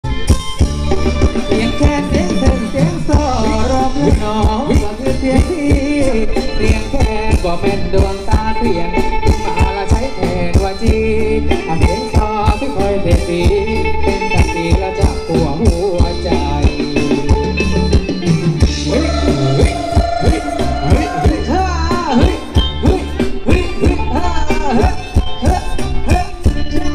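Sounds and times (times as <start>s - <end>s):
live band dance music: 0.0s - 26.9s
steady drum beat: 0.0s - 26.9s
person singing: 1.2s - 17.4s, 18.6s - 26.9s.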